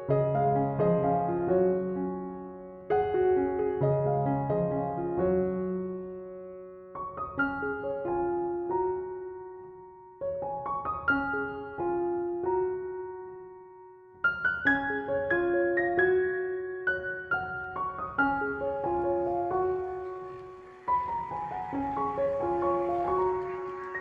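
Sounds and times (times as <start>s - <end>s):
slow piano piece: 0.0s - 24.0s.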